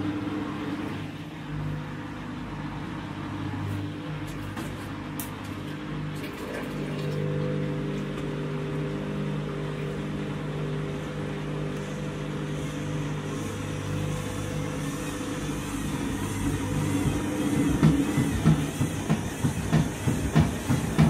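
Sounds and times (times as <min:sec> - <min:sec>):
washing machine motor hum: 0:00.0 - 0:21.0
water sloshing in washing machine: 0:00.0 - 0:21.0.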